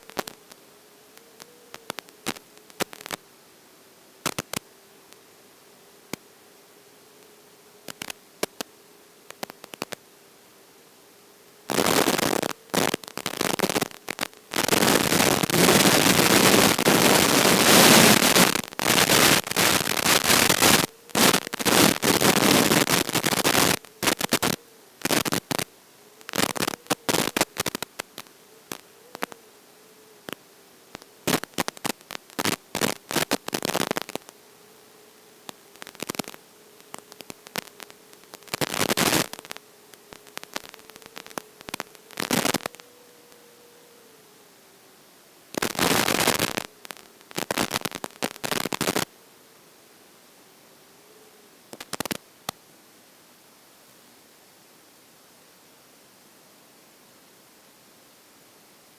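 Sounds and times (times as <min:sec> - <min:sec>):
faint steady hum: 0:00.0 - 0:58.9
radio static hiss and crackle: 0:00.0 - 0:58.9.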